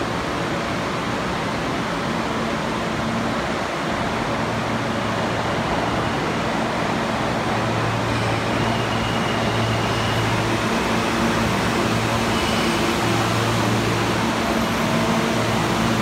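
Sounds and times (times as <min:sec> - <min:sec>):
subway car rushing hiss: 0:00.0 - 0:16.0.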